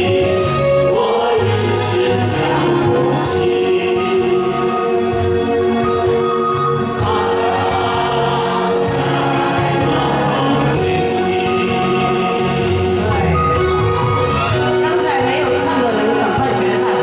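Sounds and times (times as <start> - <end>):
crowd singing along: 0.0 - 17.0
pop song with steady beat: 0.0 - 17.0.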